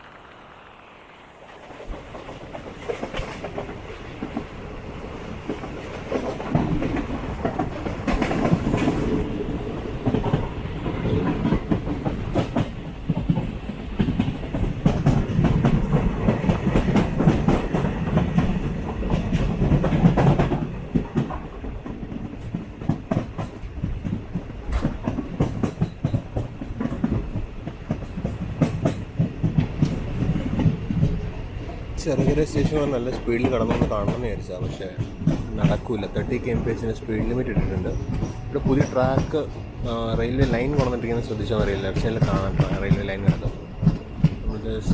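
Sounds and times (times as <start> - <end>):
train rumbling on rails: 0.0 - 44.9
wheels clicking over rail joints: 0.0 - 44.9.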